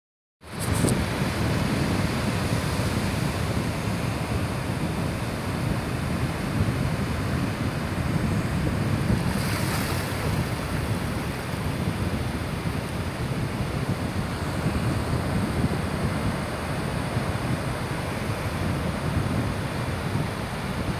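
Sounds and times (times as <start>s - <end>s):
wind rumble on microphone: 0.4s - 20.9s
surf breaking on beach: 0.5s - 20.9s.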